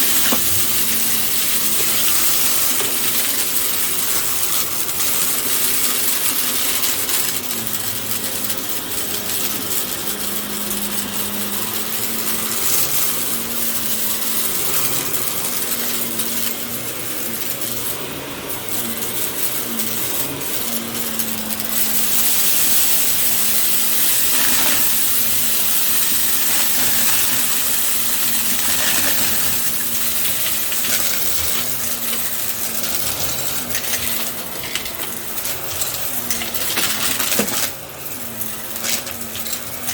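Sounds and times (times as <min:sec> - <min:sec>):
rapid clicks and rattles: 0:00.0 - 0:39.9
vacuum cleaner running: 0:00.0 - 0:39.9.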